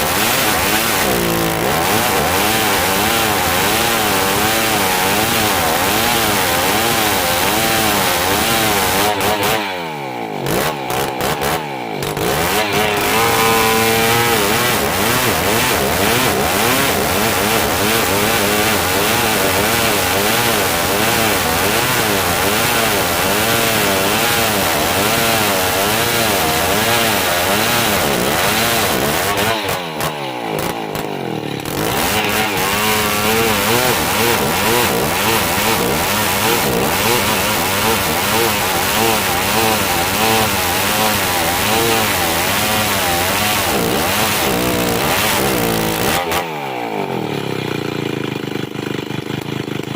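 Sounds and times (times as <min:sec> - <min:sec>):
chainsaw sawing hardwood: 0:00.0 - 0:49.9.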